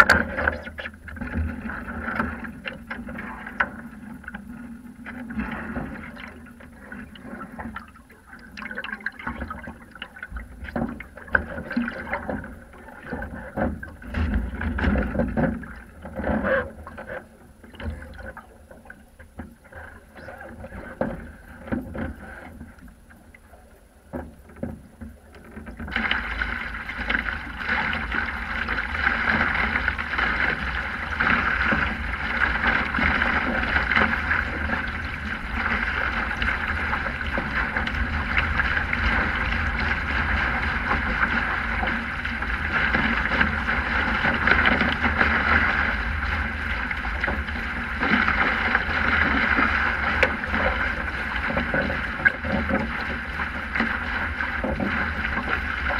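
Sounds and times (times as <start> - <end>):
water rushing along hull: 0.0 - 55.9.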